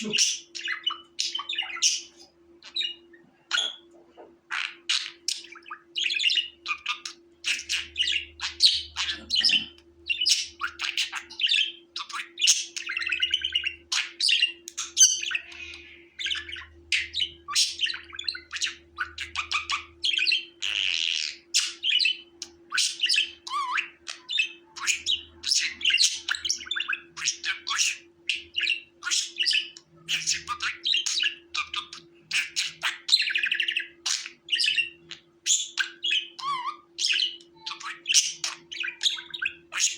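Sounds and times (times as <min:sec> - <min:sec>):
budgies chattering and chirping: 0:00.0 - 0:39.9
faint steady hum: 0:00.0 - 0:39.9.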